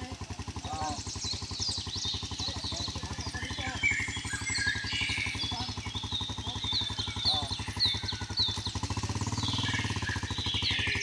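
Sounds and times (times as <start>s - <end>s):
birds chirping: 0.0s - 11.0s
small motorcycle engine idling: 0.0s - 11.0s.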